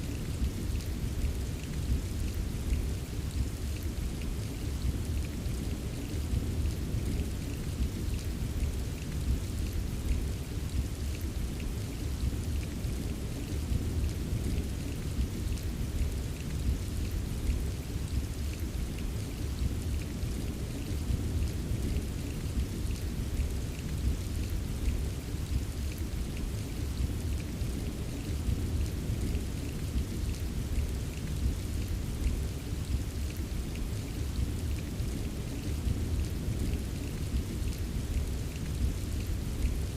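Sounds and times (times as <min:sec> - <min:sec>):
rain drops tapping: 0:00.0 - 0:39.9.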